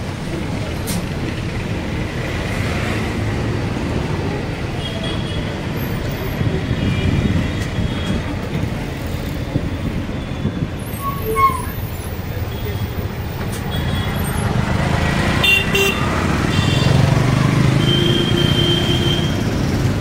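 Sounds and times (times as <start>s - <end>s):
bus engine and road rumble: 0.0s - 20.0s
surrounding traffic: 0.0s - 20.0s.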